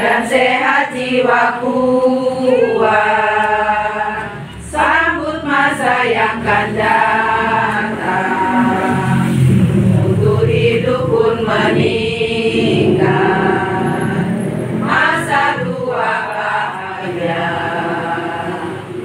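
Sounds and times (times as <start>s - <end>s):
women singing a march: 0.0s - 19.0s.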